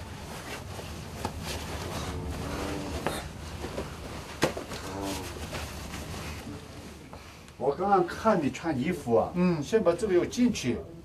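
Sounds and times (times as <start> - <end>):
heavy robe rustling: 0.0 - 9.3.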